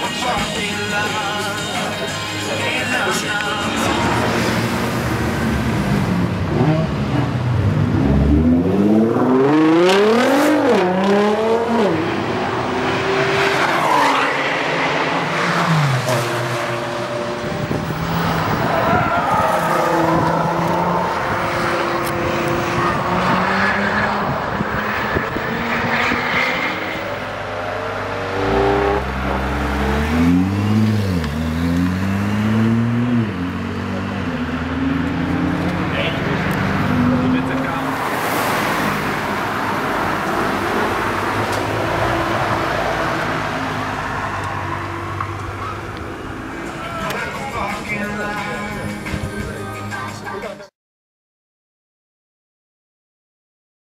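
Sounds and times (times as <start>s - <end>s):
car engine accelerating hard: 3.7s - 47.1s.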